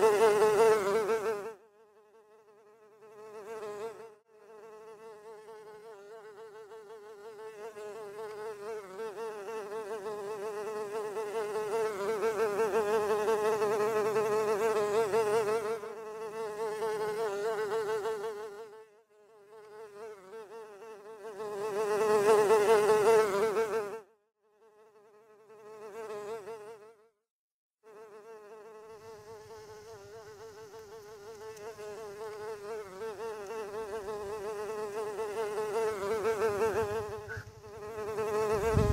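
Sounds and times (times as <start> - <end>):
bee wings buzzing: 0.0 - 24.0, 27.9 - 38.9.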